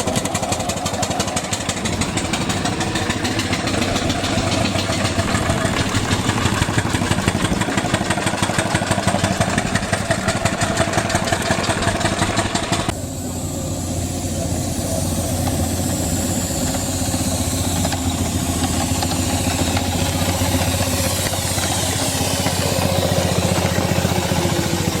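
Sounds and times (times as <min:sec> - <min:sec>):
engine hum with high overtones: 0:00.0 - 0:25.0
engine with rapid even beat: 0:00.0 - 0:25.0.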